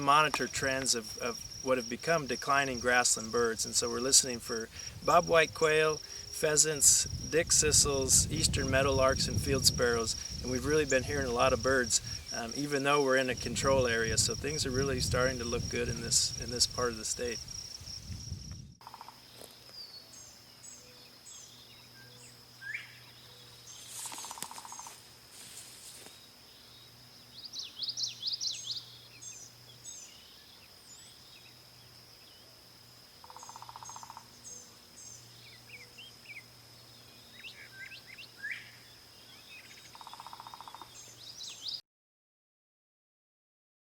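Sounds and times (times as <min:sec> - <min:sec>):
birds chirping and singing: 0:00.0 - 0:18.7, 0:19.3 - 0:25.0, 0:26.5 - 0:31.6, 0:33.4 - 0:41.8.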